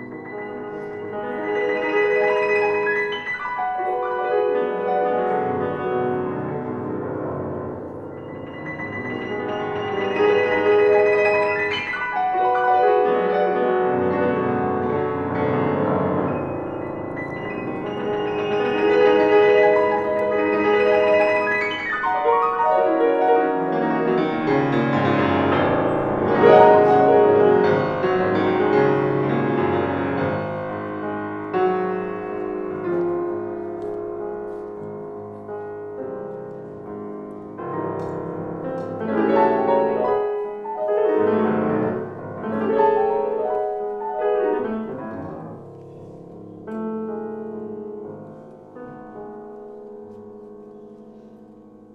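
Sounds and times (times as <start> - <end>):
solo grand piano: 0.0 - 51.9.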